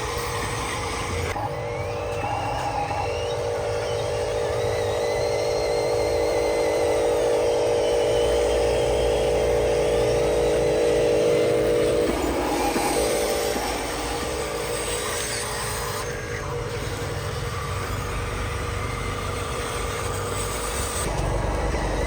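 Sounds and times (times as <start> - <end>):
model truck motors whining: 0.0 - 22.0.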